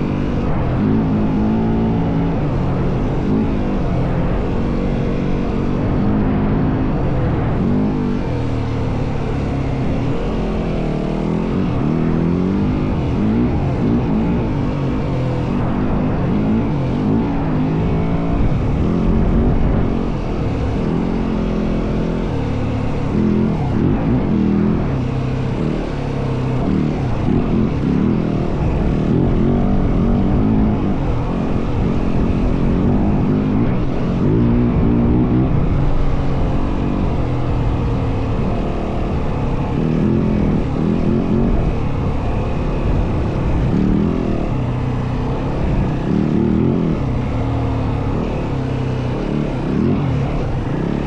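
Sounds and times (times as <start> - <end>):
dirt bike engine revving: 0.0 - 51.0
steady rushing noise: 0.0 - 51.0.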